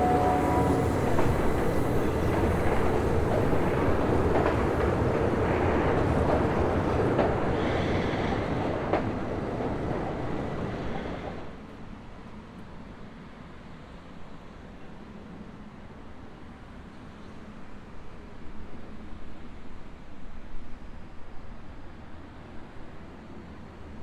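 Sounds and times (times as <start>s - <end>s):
train rolling on rails: 0.0s - 24.0s.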